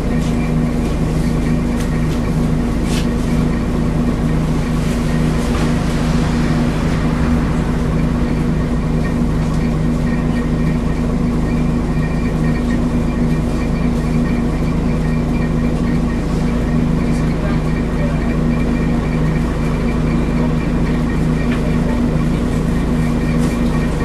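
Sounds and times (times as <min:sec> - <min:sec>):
bus engine drone: 0:00.0 - 0:24.0
cooling fan whirring: 0:00.0 - 0:24.0.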